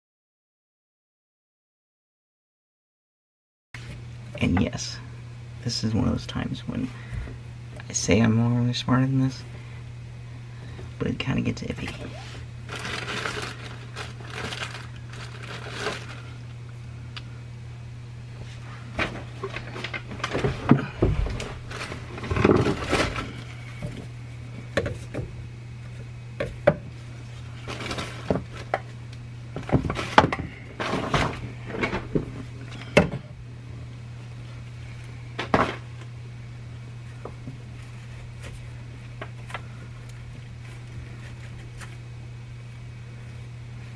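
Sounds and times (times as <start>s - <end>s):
steady low hum: 3.8s - 43.9s.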